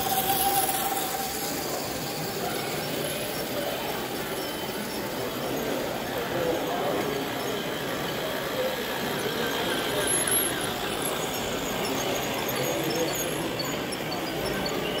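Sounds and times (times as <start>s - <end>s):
murmur of people talking: 0.0s - 15.0s
toy trains squealing on track: 0.0s - 15.0s.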